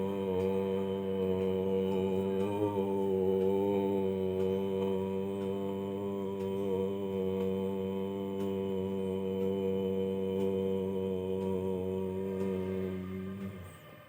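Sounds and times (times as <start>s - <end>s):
person chanting om: 0.0s - 14.0s.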